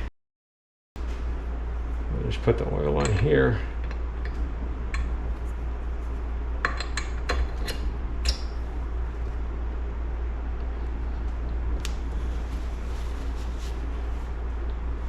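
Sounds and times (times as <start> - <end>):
steady low hum: 1.0 - 15.0.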